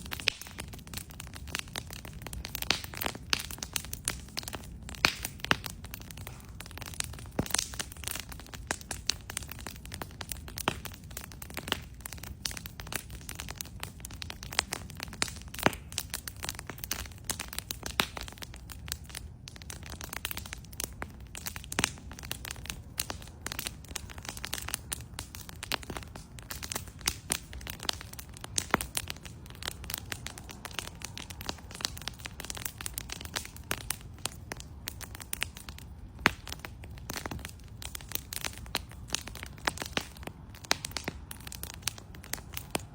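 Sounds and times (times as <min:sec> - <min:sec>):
bonfire crackling and popping: 0:00.0 - 0:42.9
low rumble of fire: 0:00.0 - 0:42.9.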